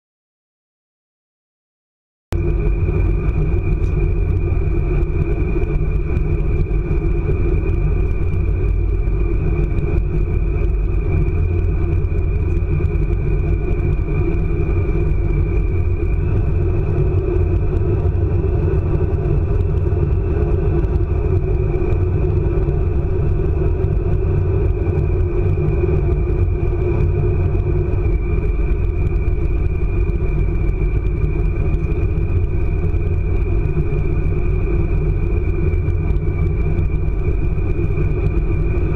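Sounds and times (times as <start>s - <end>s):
high-speed train rumble: 2.3s - 38.9s
high train whine: 2.4s - 38.9s.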